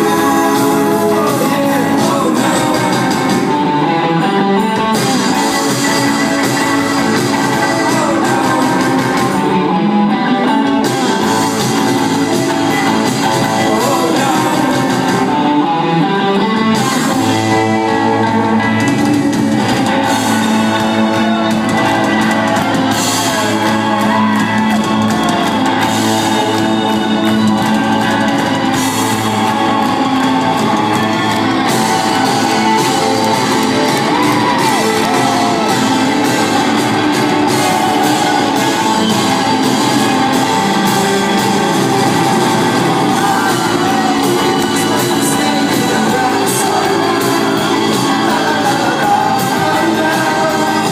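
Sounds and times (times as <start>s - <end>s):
bass guitar: 0.0s - 50.9s
drums: 0.0s - 50.9s
electric guitars: 0.0s - 50.9s
person singing: 0.0s - 50.9s.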